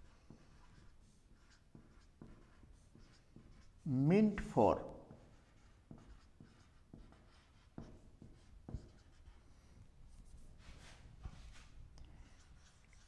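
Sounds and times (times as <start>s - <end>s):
marker scratching on whiteboard: 0.0s - 13.0s.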